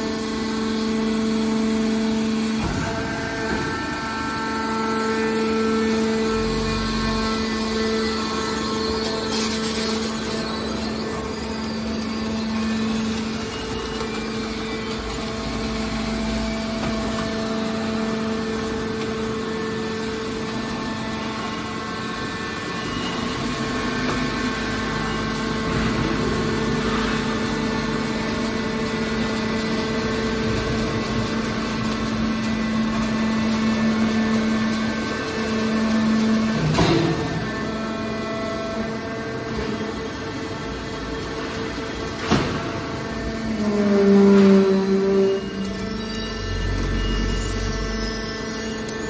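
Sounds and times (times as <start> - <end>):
hydraulic power unit humming: 0.0 - 49.0.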